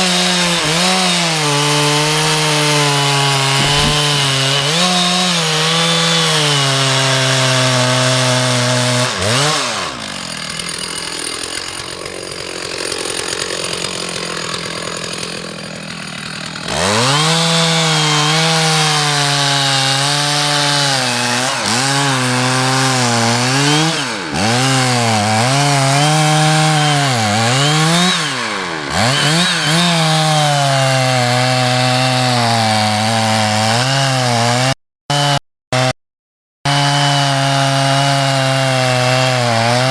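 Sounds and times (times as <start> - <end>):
chainsaw cutting wood: 0.0 - 36.0, 36.7 - 39.9.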